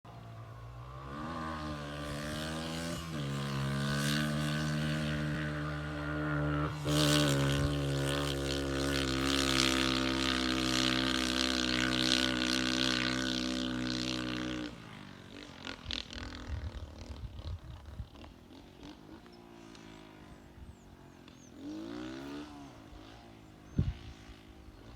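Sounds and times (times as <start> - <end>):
dirt bike engine running: 0.1 - 24.9.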